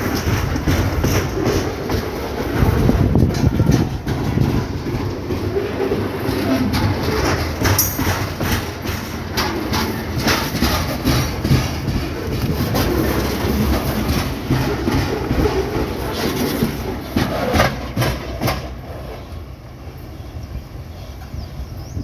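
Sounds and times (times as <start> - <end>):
freight train wagons rolling: 0.0 - 22.0
wheels clacking over rail joints: 0.0 - 22.0.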